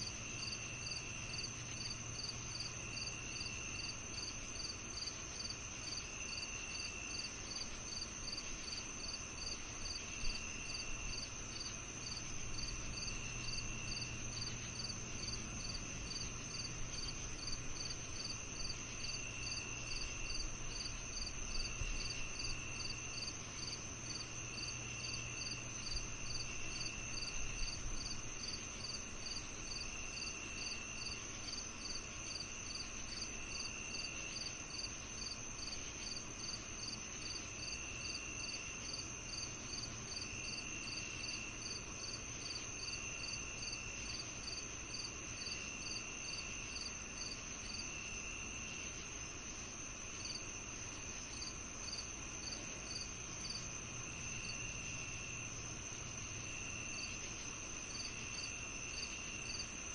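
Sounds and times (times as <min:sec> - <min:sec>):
crickets chirping: 0:00.0 - 0:59.9
lower insect trill: 0:00.0 - 0:59.9.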